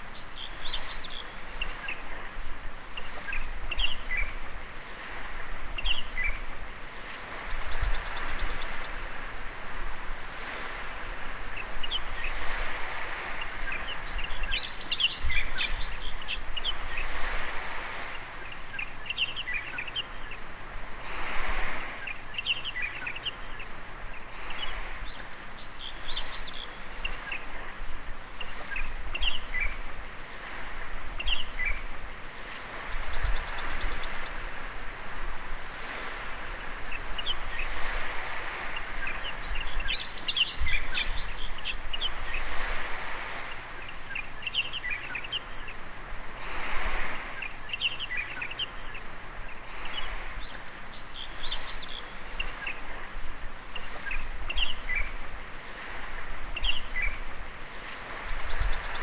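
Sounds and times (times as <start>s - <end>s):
small birds chirping: 0.0s - 9.6s, 10.3s - 20.6s, 21.6s - 59.0s
waves on a beach: 0.0s - 59.0s.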